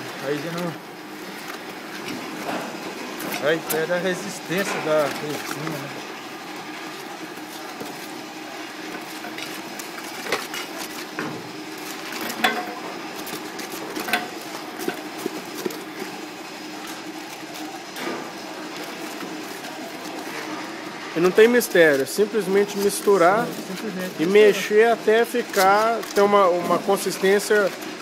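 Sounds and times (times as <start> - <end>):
stirrer scraping plastic jug: 0.4 - 28.0.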